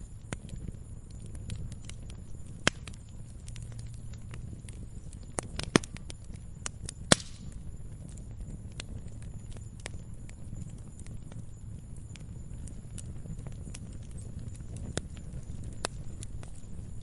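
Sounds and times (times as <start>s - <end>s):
log fire crackling and popping: 0.0s - 17.0s
low rumble of flames: 0.0s - 17.0s.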